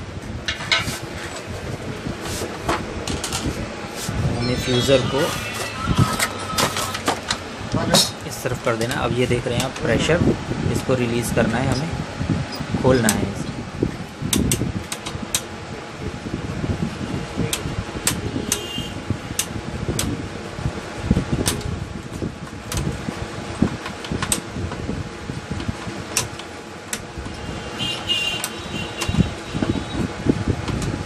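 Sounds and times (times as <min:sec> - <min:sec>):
fan hum: 0:00.0 - 0:31.0.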